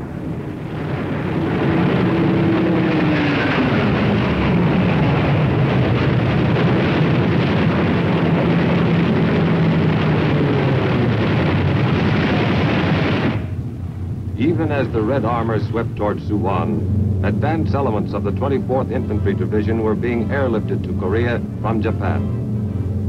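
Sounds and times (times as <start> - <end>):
dense rushing noise: 0.0 - 23.0
propeller aircraft engine: 0.0 - 23.0.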